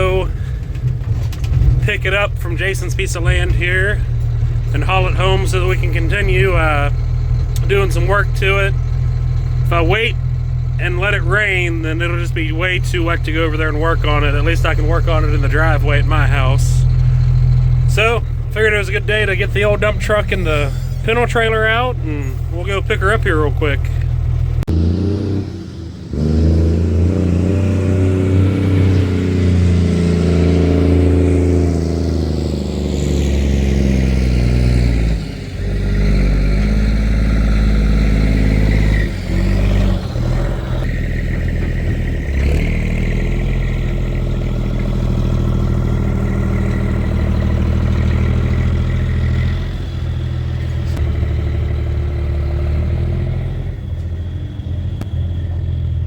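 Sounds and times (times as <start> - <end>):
truck engine accelerating: 0.0 - 56.0.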